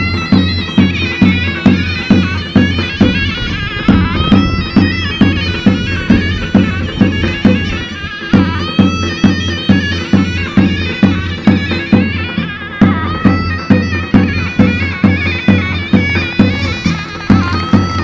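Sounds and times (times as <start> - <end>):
big drum beat: 0.0 - 18.0
shrill double-reed melody: 0.0 - 18.0.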